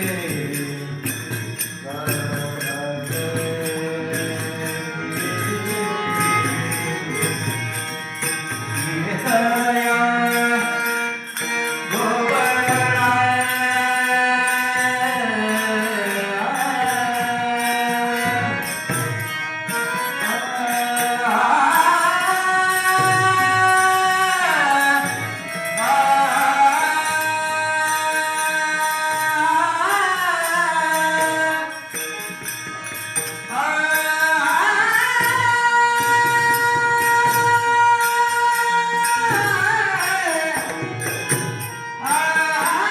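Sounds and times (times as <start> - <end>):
hand cymbals jingling: 0.0 - 42.9
instrumental accompaniment: 0.0 - 42.9
person singing devotional song: 0.0 - 42.9.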